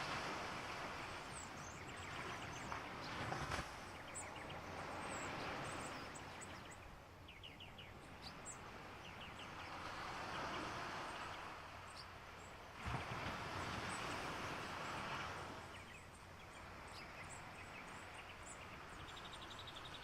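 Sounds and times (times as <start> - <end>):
faint outdoor background noise: 0.0 - 20.0
small birds chirping: 0.6 - 20.0.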